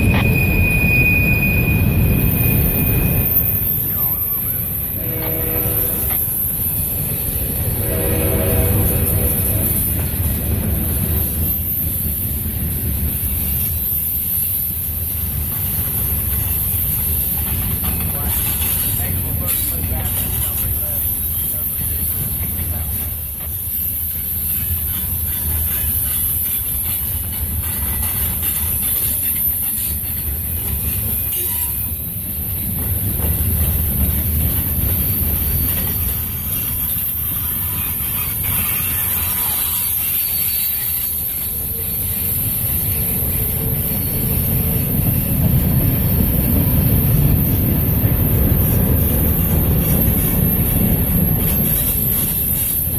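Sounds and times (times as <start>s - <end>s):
steel wheels rumbling on rail: 0.0s - 52.9s.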